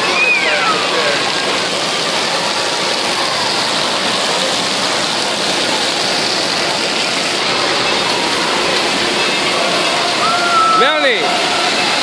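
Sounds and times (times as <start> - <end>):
splashing water rushing: 0.0 - 12.0.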